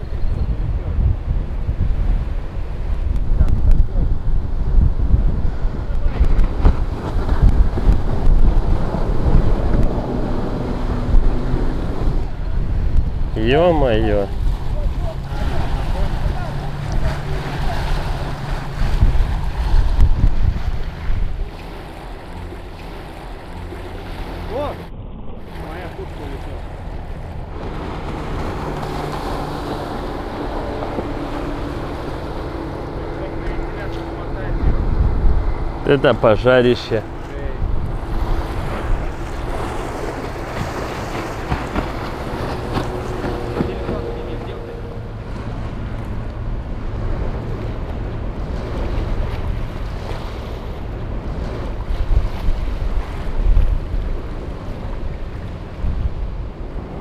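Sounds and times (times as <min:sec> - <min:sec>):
motorboat engine running: 0:00.0 - 0:57.0
wind buffeting microphone: 0:00.0 - 0:57.0.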